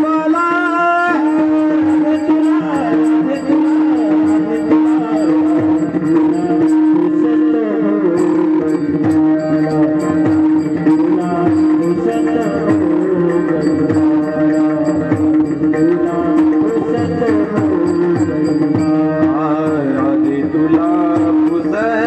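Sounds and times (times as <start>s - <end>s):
hand drum rhythm: 0.0s - 22.0s
wavering melody line: 0.0s - 22.0s.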